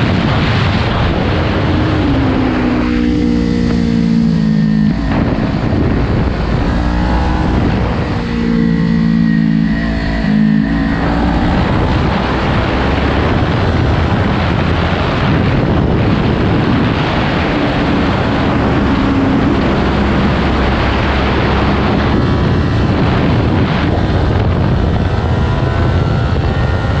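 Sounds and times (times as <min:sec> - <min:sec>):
motorcycle engine revving: 0:00.0 - 0:27.0
wind noise on microphone: 0:00.0 - 0:27.0.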